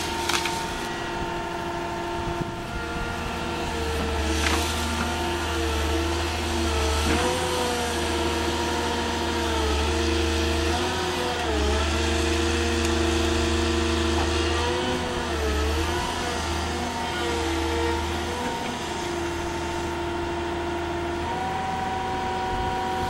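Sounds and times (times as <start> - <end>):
diesel engine and hydraulics whining: 0.0 - 23.0.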